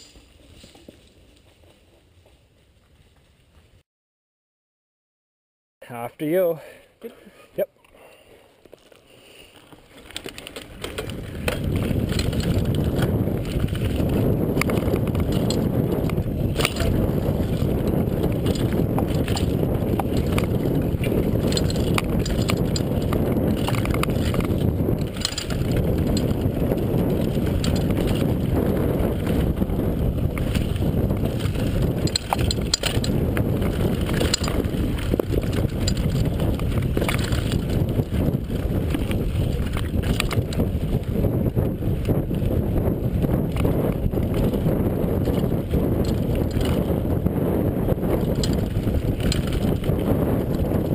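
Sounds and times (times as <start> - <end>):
wind and tyre rumble: 8.2 - 50.9
bike rattling and knocking: 9.5 - 50.9.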